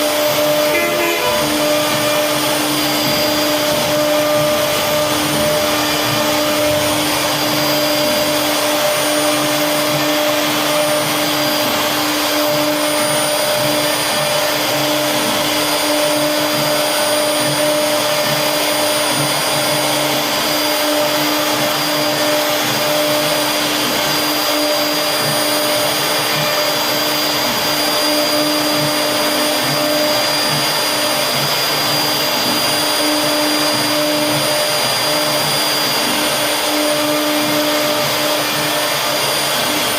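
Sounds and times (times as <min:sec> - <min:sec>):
router cutting wood: 0:00.0 - 0:39.9
wood router spindle whine: 0:00.0 - 0:39.9.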